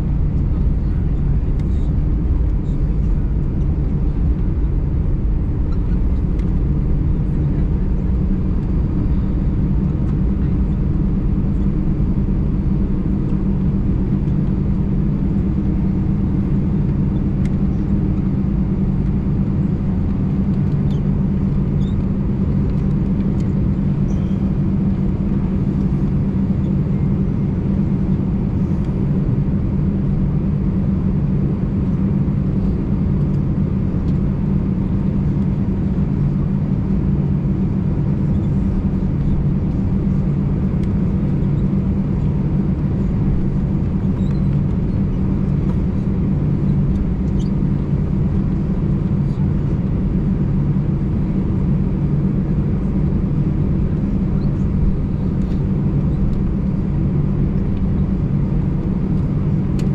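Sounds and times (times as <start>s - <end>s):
airliner engines rumbling at idle: 0.0s - 59.9s
low hum: 0.0s - 59.9s.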